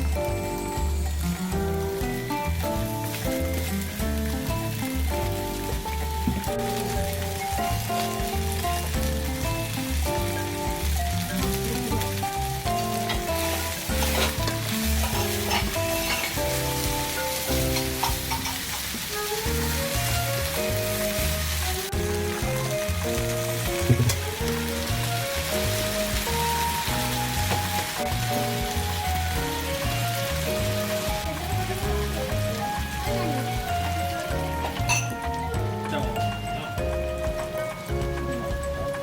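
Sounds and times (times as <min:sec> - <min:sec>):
food sizzling in a pan: 0:00.0 - 0:39.0
gentle background music: 0:00.0 - 0:39.0.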